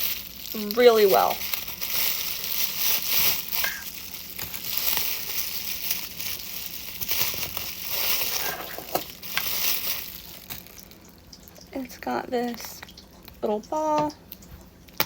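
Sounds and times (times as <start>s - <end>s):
packaging crinkling: 0.0s - 13.4s.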